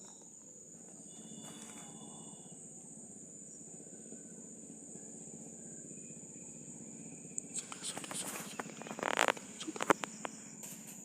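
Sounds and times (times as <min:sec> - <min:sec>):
insect chorus: 0:00.0 - 0:11.0
low steady drone: 0:00.0 - 0:11.0.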